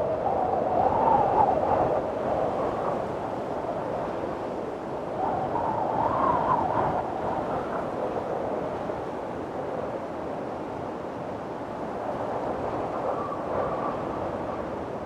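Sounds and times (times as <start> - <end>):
strong wind gusts howling: 0.0 - 15.0.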